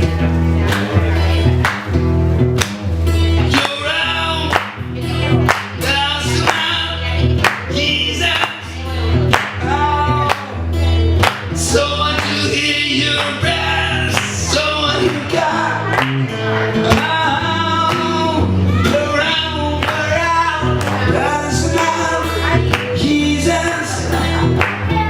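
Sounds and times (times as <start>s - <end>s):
live band playing: 0.0s - 25.0s
person singing: 3.1s - 25.0s.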